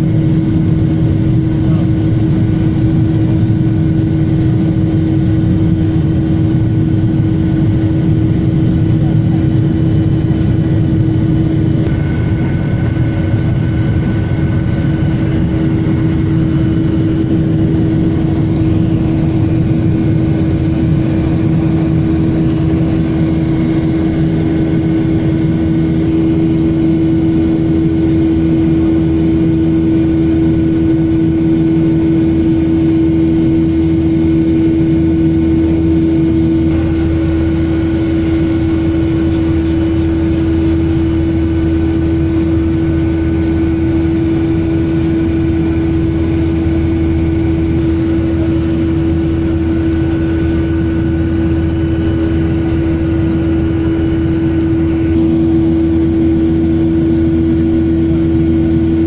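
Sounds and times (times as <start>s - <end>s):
droning hum: 0.0s - 59.0s
jet engine and airflow rush: 0.0s - 59.0s.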